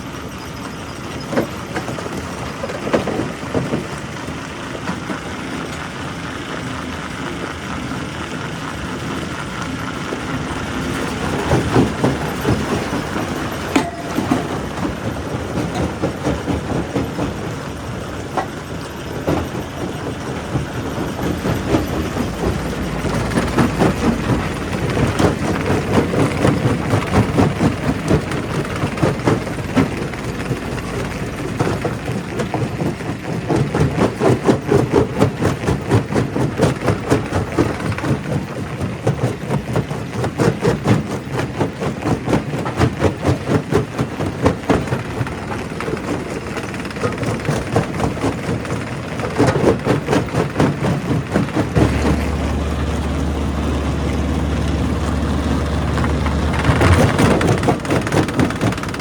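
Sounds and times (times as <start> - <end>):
rock crusher knocking: 10.4 - 59.0.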